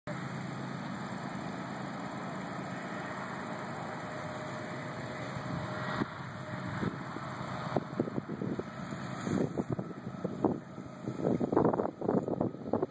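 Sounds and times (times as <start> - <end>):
freight train rumble: 0.1 - 12.9.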